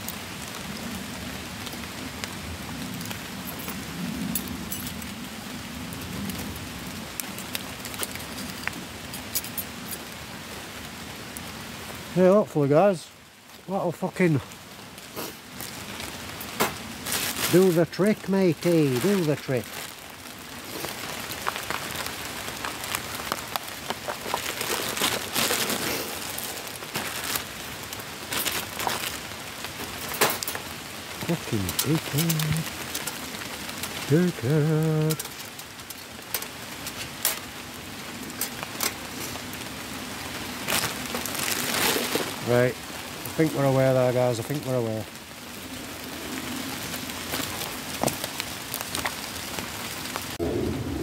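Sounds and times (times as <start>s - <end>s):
sharp ticks of raindrops: 0.0s - 51.0s
steady rain falling: 0.0s - 51.0s.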